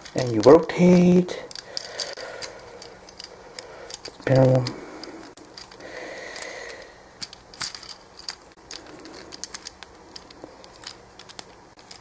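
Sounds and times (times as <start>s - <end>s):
plastic toy parts clicking: 0.0s - 0.5s, 1.4s - 12.0s.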